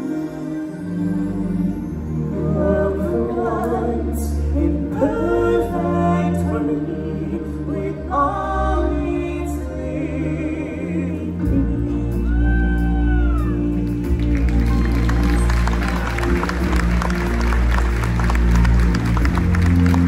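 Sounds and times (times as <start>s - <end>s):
orchestral backing with low bass: 0.0s - 20.0s.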